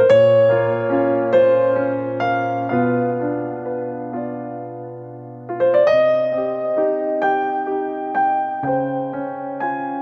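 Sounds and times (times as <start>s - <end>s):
slow electric piano music: 0.0s - 10.0s.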